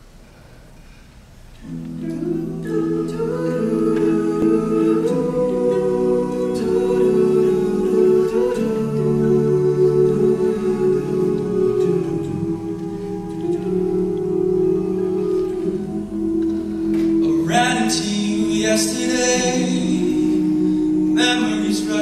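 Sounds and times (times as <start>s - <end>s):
male a cappella group singing: 2.1s - 22.0s.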